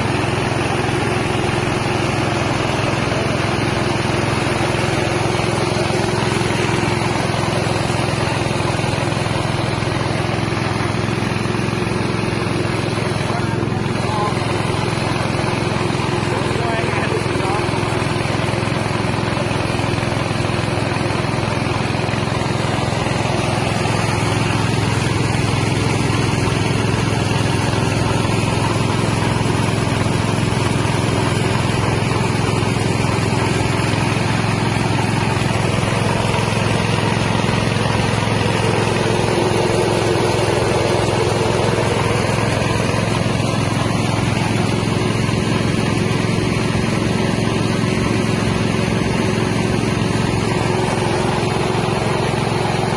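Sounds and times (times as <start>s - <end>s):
rice-milling machine engine droning: 0.0s - 52.9s.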